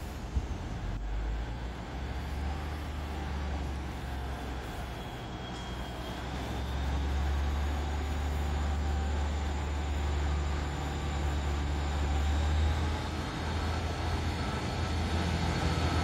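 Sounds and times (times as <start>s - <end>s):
faint high whine: 0.0s - 16.0s
train engine rumble: 0.0s - 16.0s.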